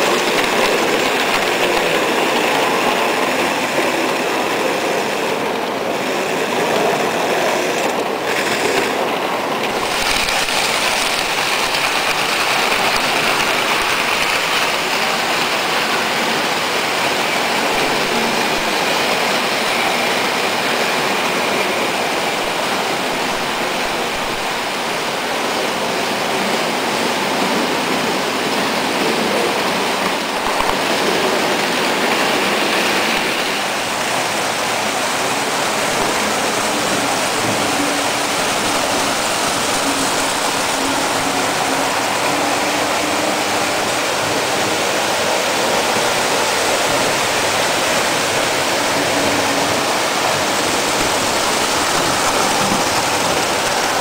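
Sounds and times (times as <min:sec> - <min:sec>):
toy trains running on metal track: 0:00.0 - 0:54.0.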